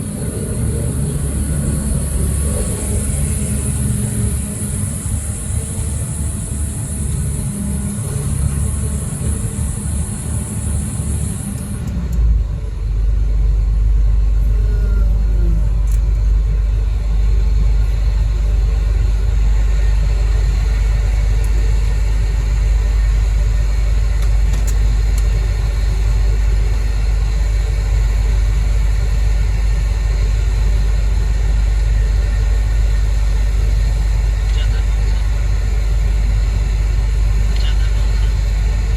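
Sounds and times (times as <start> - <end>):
diesel machinery engine rumbling: 0.0 - 38.9.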